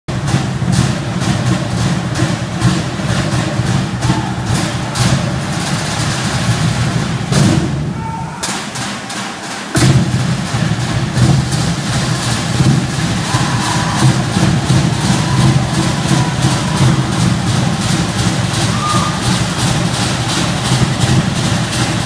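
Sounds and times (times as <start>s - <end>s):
fast drumming: 0.1s - 22.0s.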